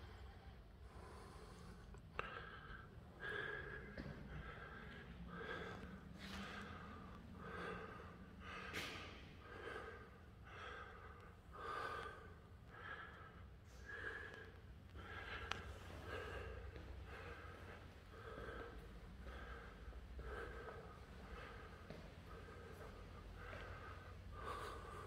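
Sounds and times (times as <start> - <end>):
person breathing: 0.0 - 25.0.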